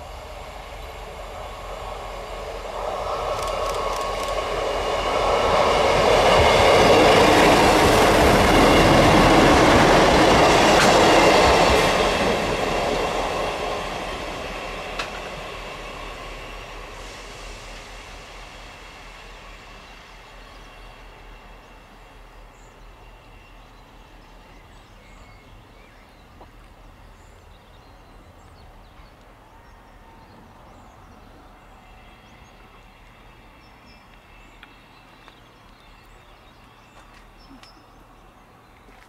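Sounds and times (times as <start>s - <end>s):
train engine rumble: 0.0s - 39.0s.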